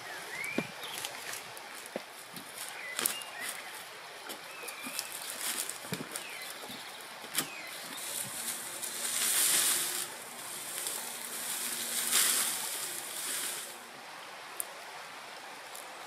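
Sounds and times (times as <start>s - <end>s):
dry reed rustling and crackling: 0.0s - 14.8s.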